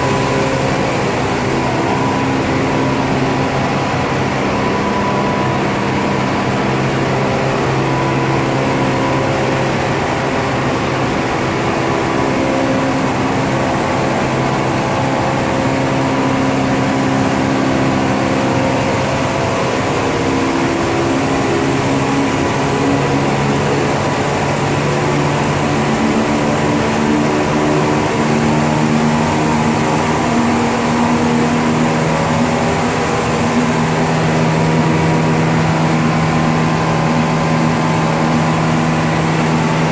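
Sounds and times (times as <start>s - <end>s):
printing press droning: 0.0s - 39.9s.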